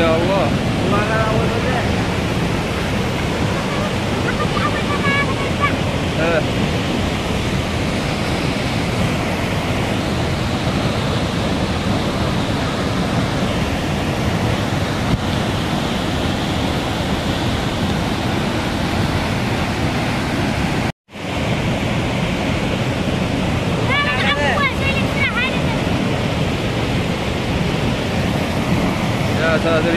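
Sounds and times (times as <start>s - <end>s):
water rushing over rocks: 0.0s - 29.9s.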